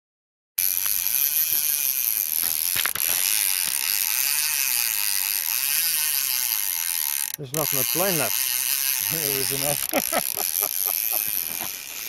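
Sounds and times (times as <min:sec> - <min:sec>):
fishing reel drag screaming: 0:00.6 - 0:12.0.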